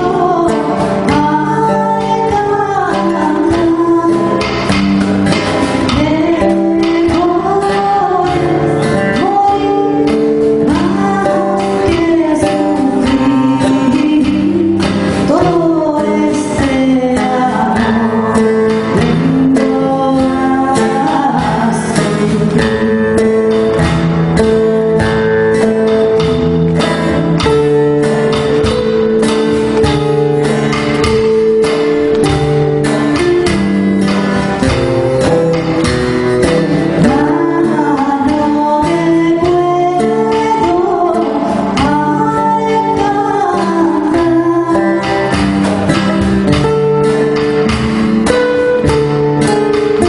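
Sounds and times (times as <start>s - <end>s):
acoustic guitars playing: 0.0s - 50.0s
woman singing: 0.0s - 50.0s.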